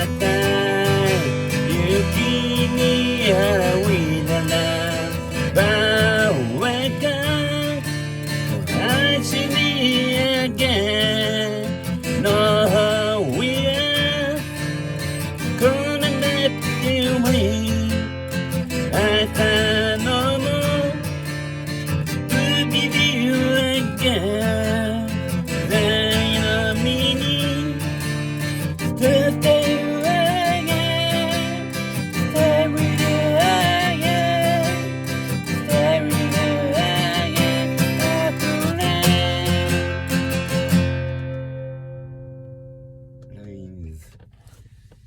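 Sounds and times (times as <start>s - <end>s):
acoustic guitar strumming: 0.0s - 43.4s.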